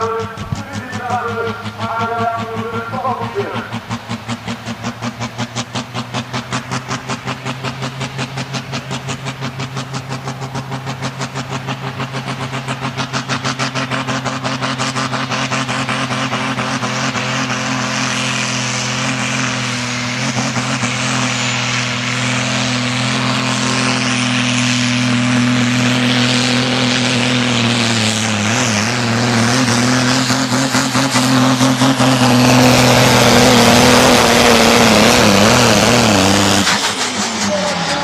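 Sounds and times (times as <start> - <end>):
diesel engine droning under load: 0.0 - 38.0.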